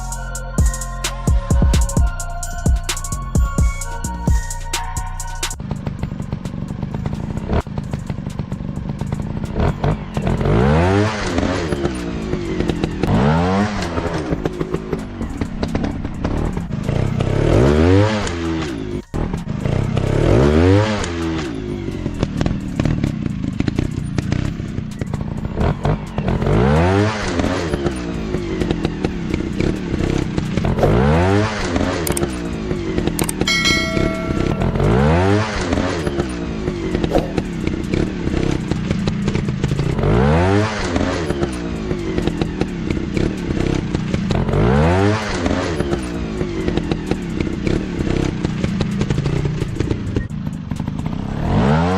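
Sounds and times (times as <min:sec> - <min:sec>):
trail bike engines revving: 0:05.5 - 0:51.9.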